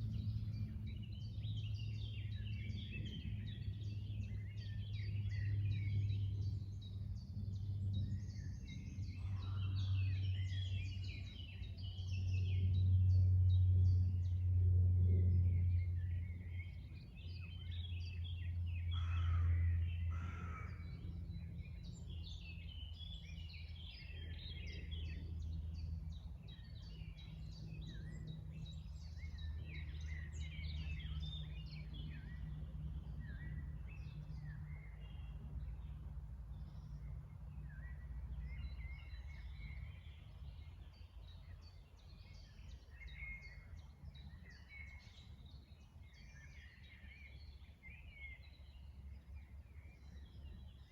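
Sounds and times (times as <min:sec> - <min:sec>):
low background rumble: 0:00.0 - 0:50.9
songbirds chirping and trilling: 0:00.0 - 0:50.9.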